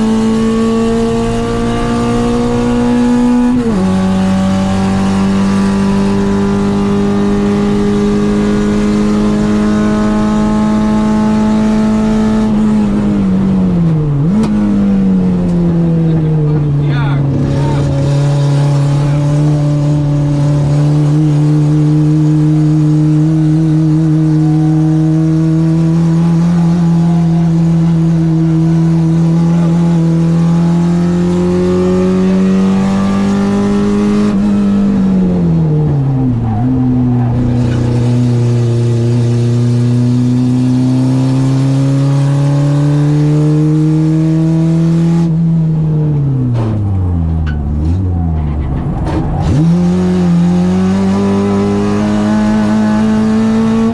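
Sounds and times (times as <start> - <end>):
car engine revving high: 0.0 - 53.9.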